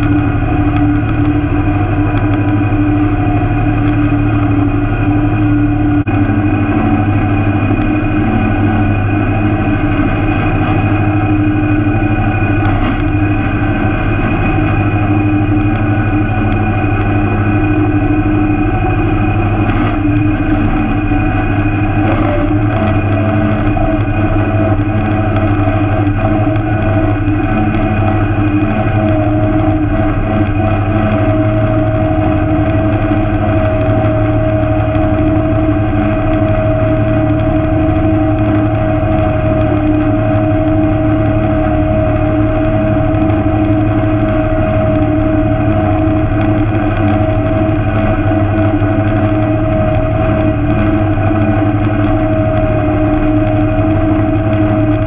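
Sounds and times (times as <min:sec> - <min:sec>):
steady whine: 0:00.0 - 0:55.0
tractor engine running: 0:00.0 - 0:55.0.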